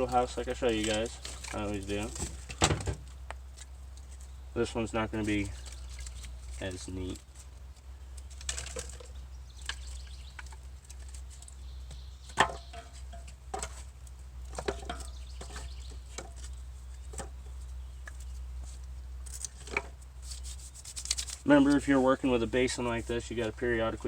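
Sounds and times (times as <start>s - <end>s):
dry sticks clicking and knocking: 0.0s - 4.4s, 5.2s - 21.9s.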